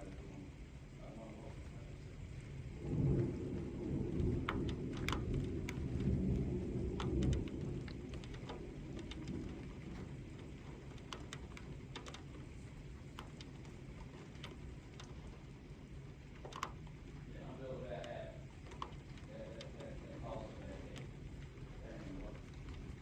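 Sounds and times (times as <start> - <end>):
steady rain: 0.0 - 23.0
thunder rumbling: 1.4 - 23.0
drips ticking: 2.9 - 23.0.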